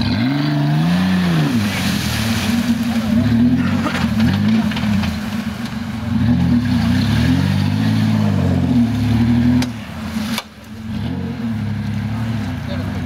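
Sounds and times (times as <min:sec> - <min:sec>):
off-road engine revving: 0:00.0 - 0:13.0.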